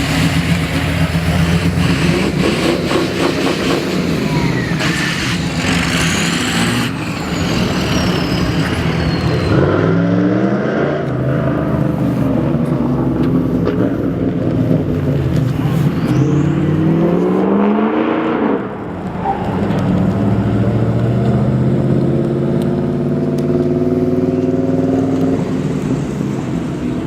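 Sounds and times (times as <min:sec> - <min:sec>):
cars driving past: 0:00.0 - 0:27.0
engine revving up: 0:00.0 - 0:27.0.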